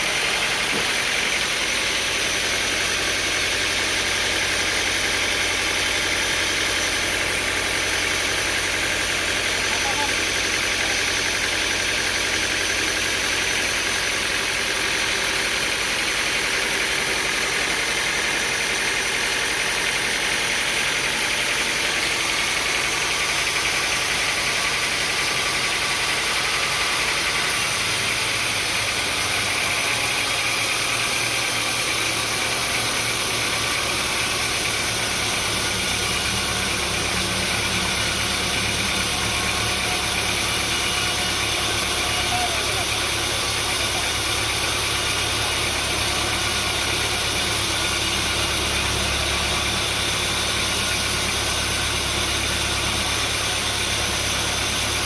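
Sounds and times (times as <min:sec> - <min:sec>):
engine humming: 0:00.0 - 0:14.7, 0:15.4 - 0:55.0.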